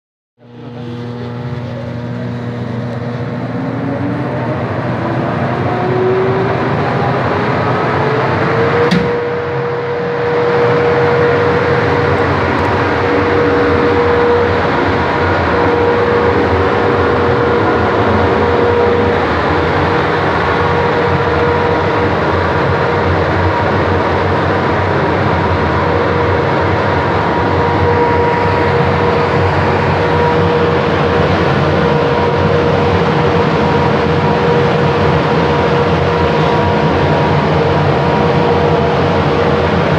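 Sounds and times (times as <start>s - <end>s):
industrial fan rushing air: 0.4s - 39.9s.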